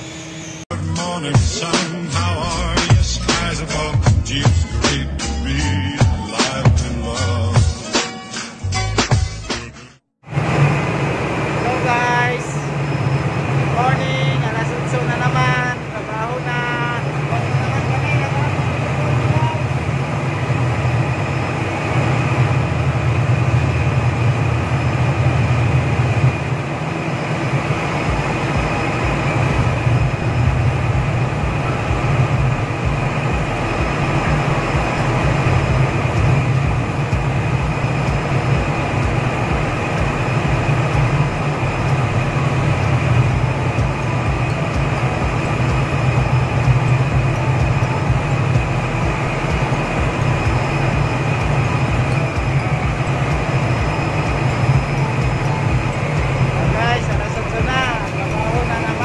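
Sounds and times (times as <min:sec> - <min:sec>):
ship machinery drone: 0:00.0 - 0:07.6, 0:10.0 - 0:59.0
fast low pulsing: 0:01.4 - 0:07.8, 0:10.2 - 0:59.0.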